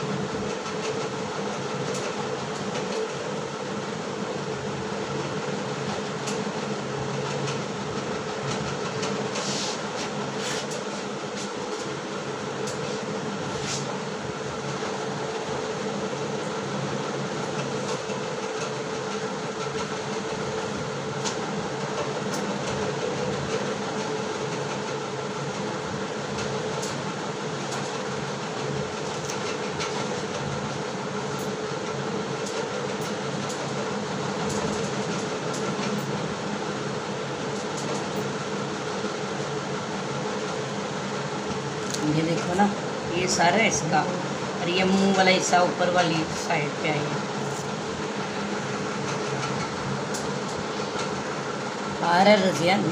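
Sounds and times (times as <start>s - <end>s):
fan whirring hum: 0.0s - 52.9s.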